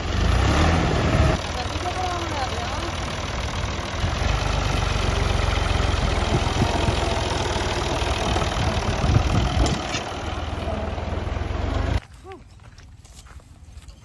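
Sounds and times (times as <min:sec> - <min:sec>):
combine harvester engine rumbling: 0:00.0 - 0:12.1.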